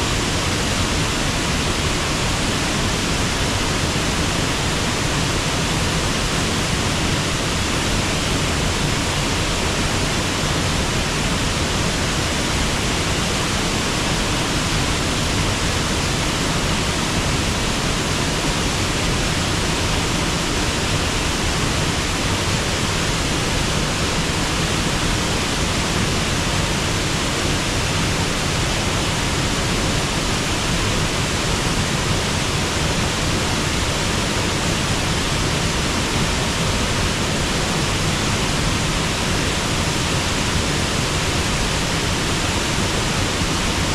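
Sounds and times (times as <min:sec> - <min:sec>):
waterfall and river rushing: 0:00.0 - 0:43.9.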